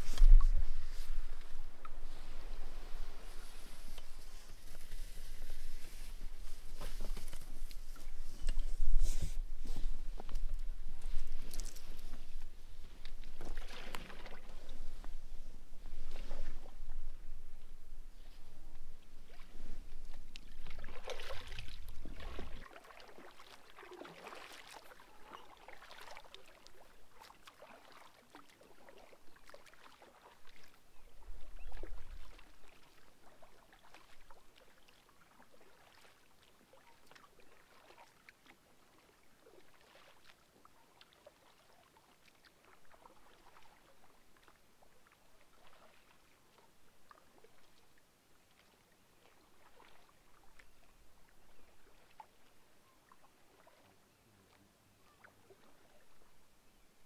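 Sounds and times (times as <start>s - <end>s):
paddle splashing water: 0.0s - 17.4s, 18.1s - 56.3s.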